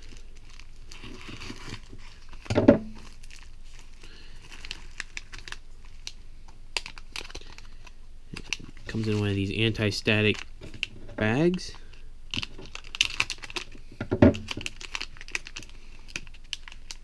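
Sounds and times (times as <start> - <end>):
plastic bag crinkling: 0.0 - 17.0
plastic mailer crinkling and tearing: 0.0 - 17.0.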